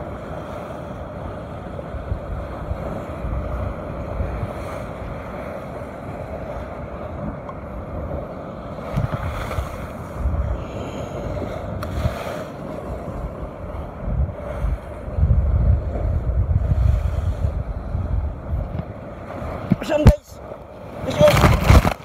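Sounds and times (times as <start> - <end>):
wind buffeting microphone: 0.0 - 22.0
surf breaking on rocks: 1.9 - 22.0.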